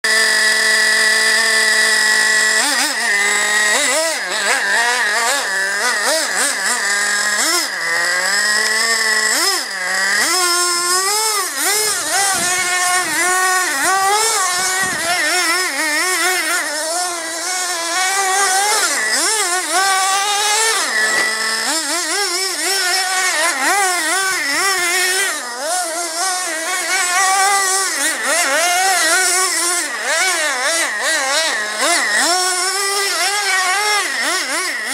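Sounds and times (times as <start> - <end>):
rc truck engine revving: 0.0 - 34.9.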